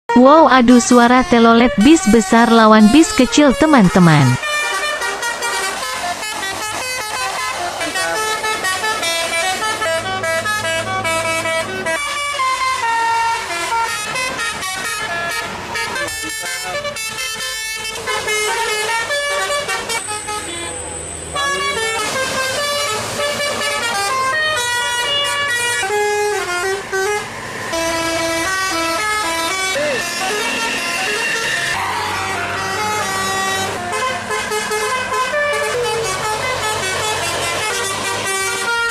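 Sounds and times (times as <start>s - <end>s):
musical bus horns: 0.1s - 38.9s.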